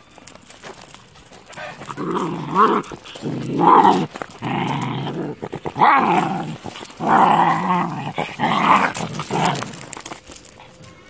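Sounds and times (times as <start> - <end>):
puppies growling: 1.4 - 11.0.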